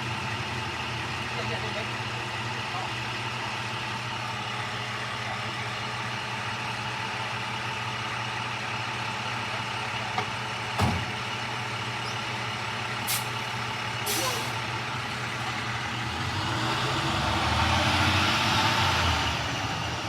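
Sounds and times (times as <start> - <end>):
truck engine idling: 0.0 - 18.2.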